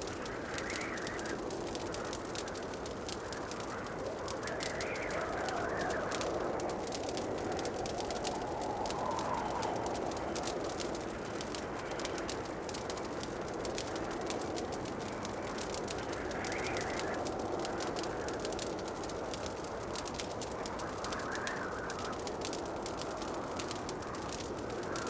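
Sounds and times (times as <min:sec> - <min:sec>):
steady rushing hiss: 0:00.0 - 0:25.0
wood fire crackling: 0:00.0 - 0:25.0.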